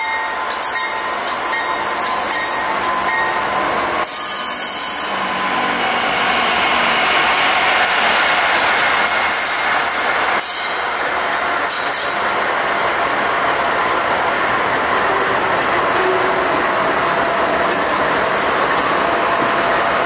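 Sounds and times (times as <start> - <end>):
steel wheels on rail: 0.0 - 20.0.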